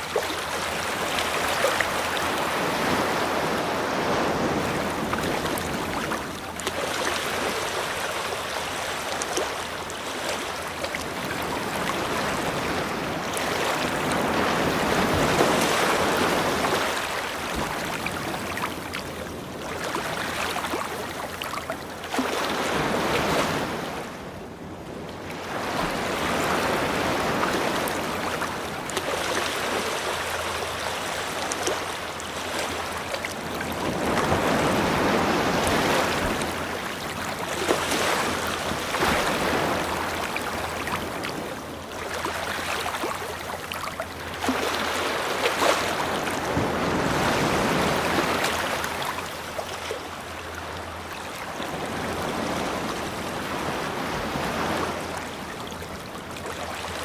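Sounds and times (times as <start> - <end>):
ocean surf washing onto shore: 0.0 - 57.0.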